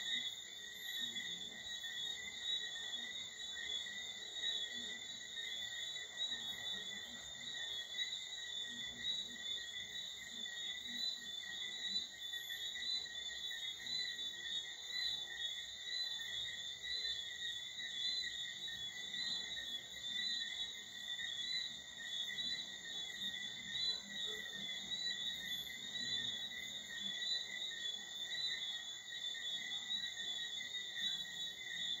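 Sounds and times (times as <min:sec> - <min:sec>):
animals trilling at night: 0:00.0 - 0:32.0.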